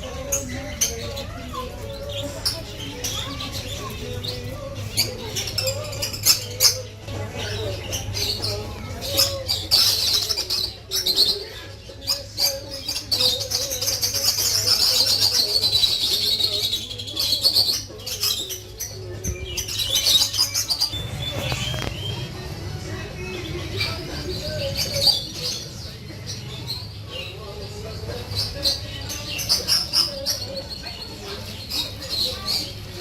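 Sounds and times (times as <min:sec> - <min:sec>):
birds chirping: 0:00.0 - 0:33.0
birds cooing: 0:00.0 - 0:33.0.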